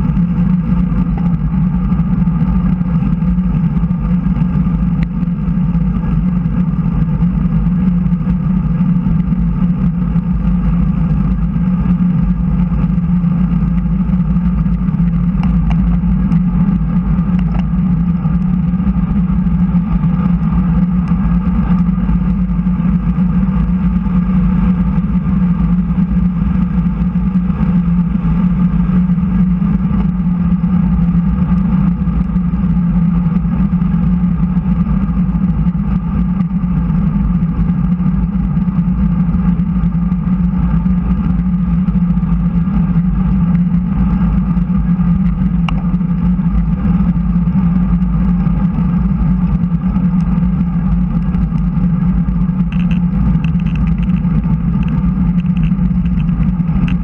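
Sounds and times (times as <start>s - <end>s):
bicycle tyres rolling on asphalt: 0.0s - 57.0s
wind noise: 0.0s - 57.0s.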